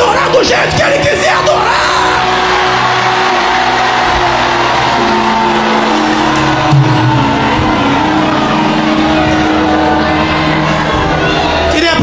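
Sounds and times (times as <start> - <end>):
crowd cheering and shouting: 0.0 - 12.0
music with held chords: 0.0 - 12.0.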